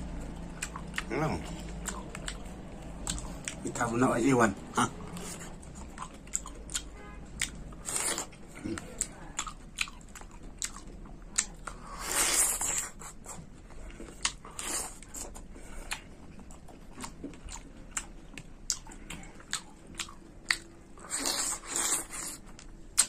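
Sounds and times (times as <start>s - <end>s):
person chewing: 0.0s - 4.0s, 4.6s - 23.0s.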